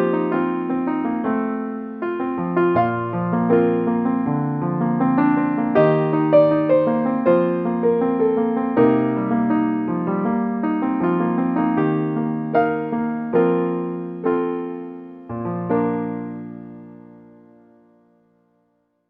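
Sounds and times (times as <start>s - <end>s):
solo piano melody: 0.0s - 19.0s.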